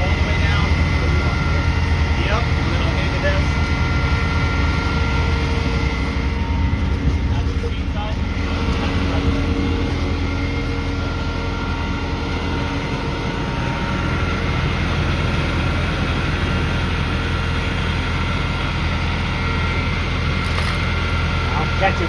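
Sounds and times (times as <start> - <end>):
heavy engine idling: 0.0 - 22.0.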